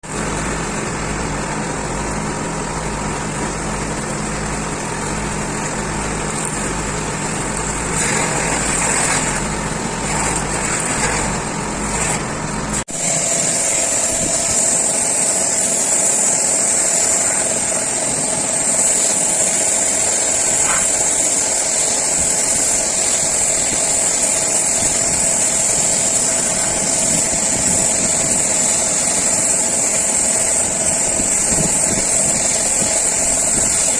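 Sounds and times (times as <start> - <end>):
constant machine whine: 0.0 - 33.9
low machine hum: 0.0 - 33.9.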